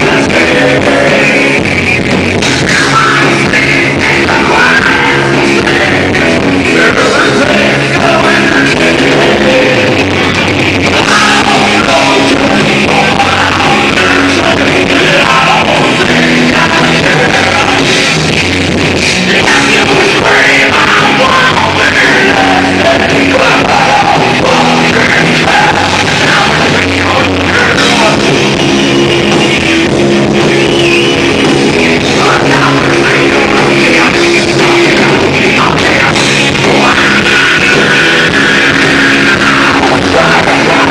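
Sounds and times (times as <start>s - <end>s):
person singing: 0.0s - 1.7s, 2.5s - 18.2s, 19.1s - 29.4s, 30.2s - 40.9s
rock band playing live: 0.0s - 40.9s.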